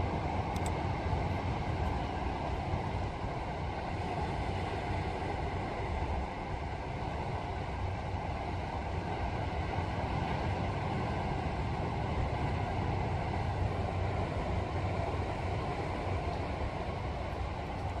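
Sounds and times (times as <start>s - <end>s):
wind rumble on microphone: 0.0s - 18.0s
surf washing: 1.4s - 18.0s.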